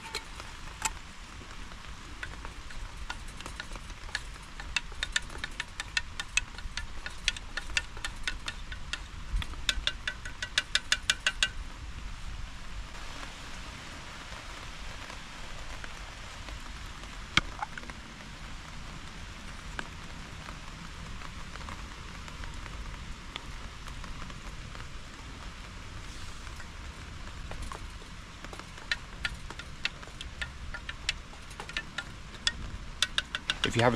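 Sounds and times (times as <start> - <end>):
rain pattering on a tarp: 0.0 - 33.9.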